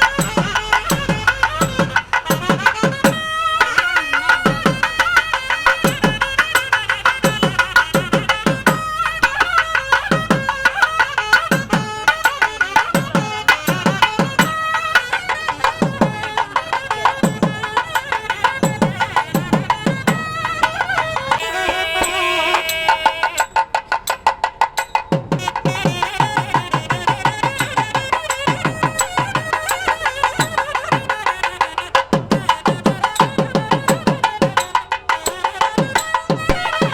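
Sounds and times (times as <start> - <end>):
hand drum strokes: 0.0 - 36.9.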